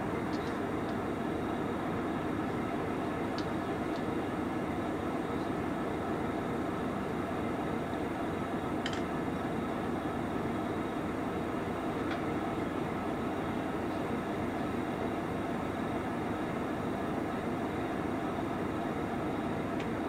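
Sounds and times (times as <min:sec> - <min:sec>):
diesel engines idling: 0:00.0 - 0:20.0.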